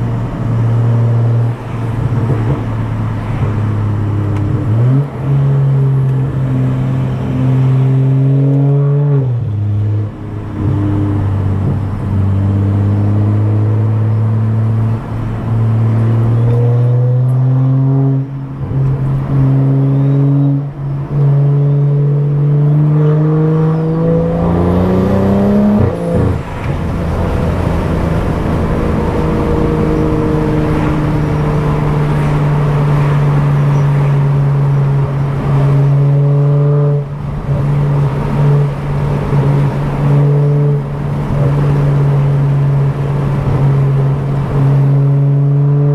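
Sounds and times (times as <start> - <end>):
car engine accelerating: 0.0 - 45.9.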